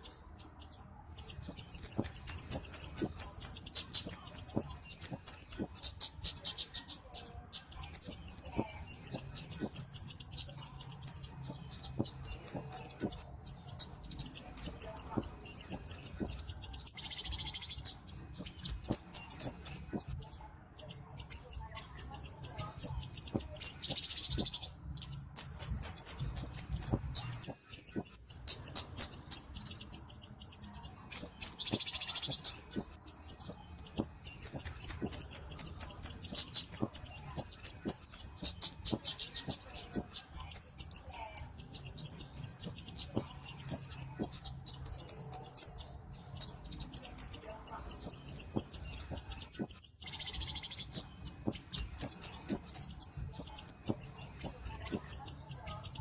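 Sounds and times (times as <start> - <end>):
bird singing high thin chirps: 0.0 - 56.0.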